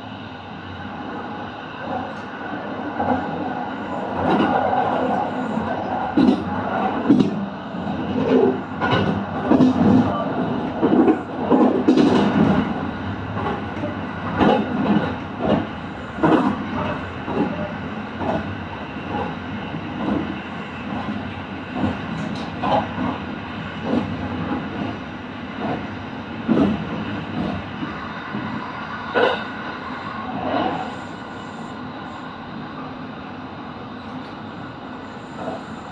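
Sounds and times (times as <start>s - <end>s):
electric train rumbling: 0.0s - 35.9s.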